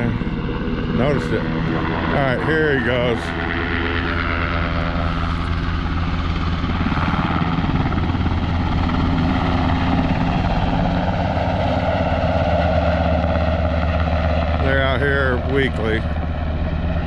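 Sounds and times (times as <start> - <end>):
helicopter flying close: 0.0 - 17.0.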